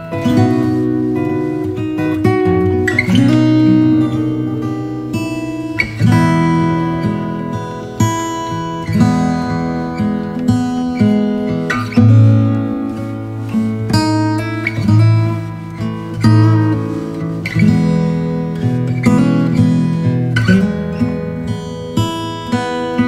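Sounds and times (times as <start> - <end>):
acoustic guitar instrumental: 0.0 - 23.0.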